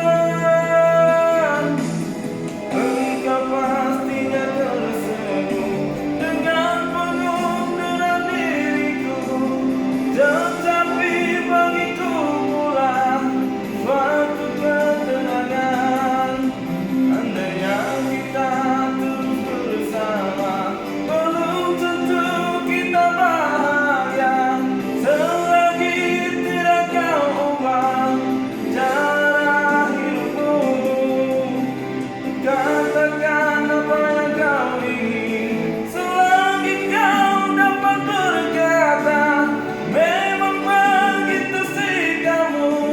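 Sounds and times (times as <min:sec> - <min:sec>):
instrumental accompaniment: 0:00.0 - 0:42.9
person singing a slow song: 0:00.0 - 0:42.9.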